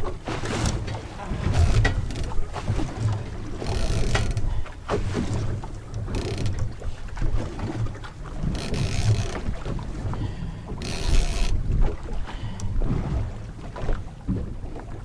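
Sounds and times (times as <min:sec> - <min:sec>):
sea wash: 0:00.0 - 0:15.0.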